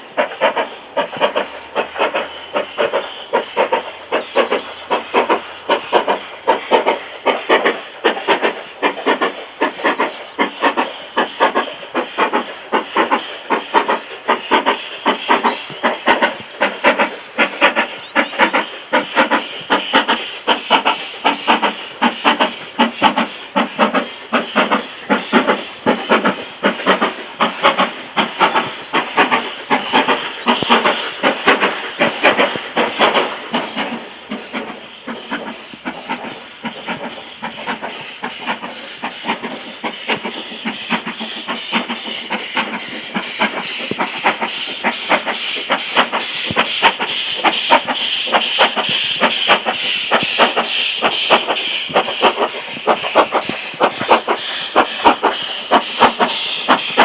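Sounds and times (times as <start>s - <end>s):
steam hissing: 0.0s - 57.0s
steam locomotive exhaust beats: 0.0s - 57.0s.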